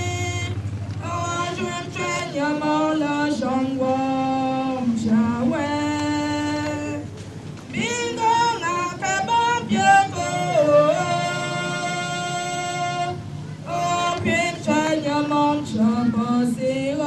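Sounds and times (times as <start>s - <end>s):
woman singing a slow hymn: 0.0s - 17.0s.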